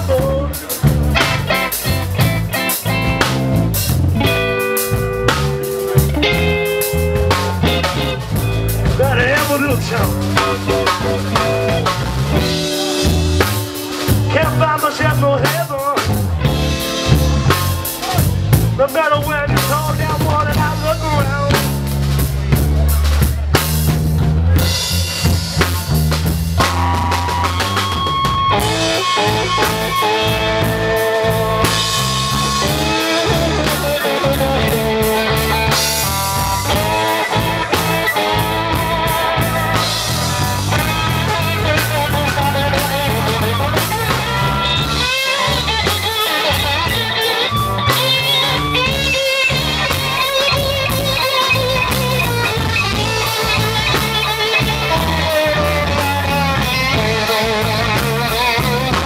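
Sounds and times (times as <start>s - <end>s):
drum kit: 0.0s - 59.0s
electric bass: 0.0s - 59.0s
electric guitar solo: 0.8s - 21.4s, 26.6s - 59.0s.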